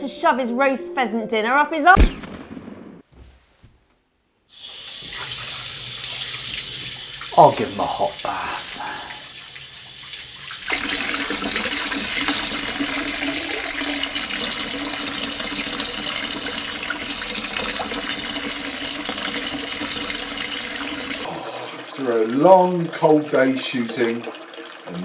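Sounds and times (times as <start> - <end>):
tap water filling bathtub: 4.6 - 25.0.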